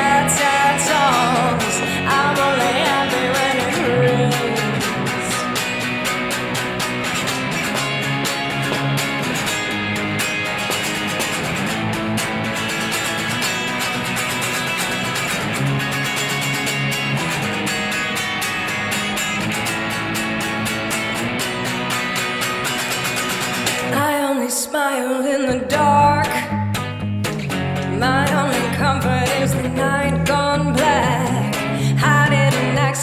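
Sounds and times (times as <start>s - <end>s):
electric guitar strumming chords: 0.0s - 24.4s, 25.5s - 33.0s.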